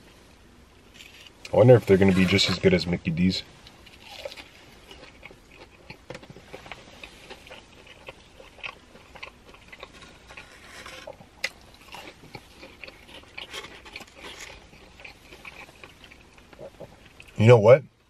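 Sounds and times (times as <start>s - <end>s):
person chewing crunchy food: 0.9s - 2.6s, 3.6s - 17.4s.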